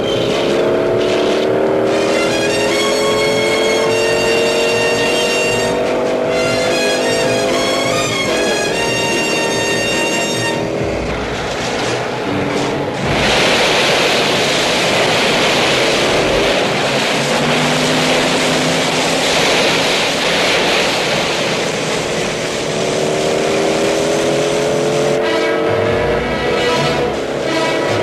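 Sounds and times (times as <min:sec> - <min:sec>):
car engine running hard: 0:00.0 - 0:28.0
spraying seawater and waves: 0:00.0 - 0:28.0.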